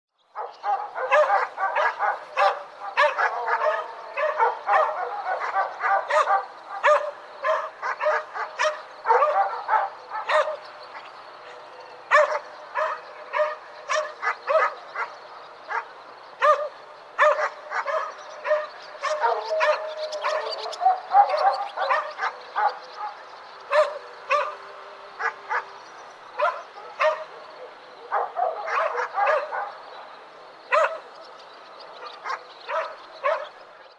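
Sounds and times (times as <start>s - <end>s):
dogs barking: 0.3s - 33.7s.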